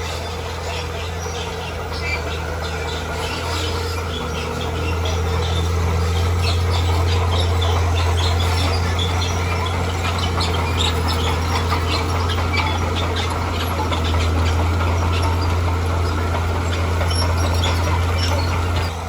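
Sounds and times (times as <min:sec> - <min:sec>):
earthmoving machine diesel drone: 0:00.0 - 0:19.0.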